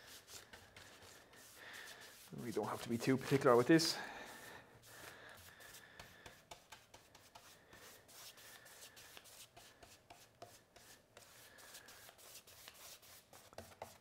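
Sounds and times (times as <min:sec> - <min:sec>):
paintbrush swishing on board: 0:00.0 - 0:14.0.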